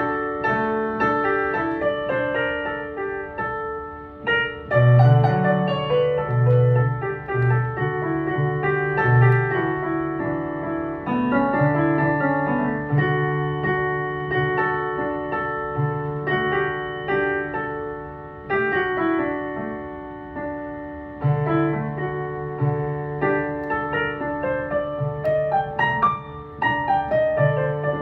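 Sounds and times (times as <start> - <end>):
low bass piano notes ringing: 0.0 - 28.0
piano chords and melody: 0.0 - 28.0.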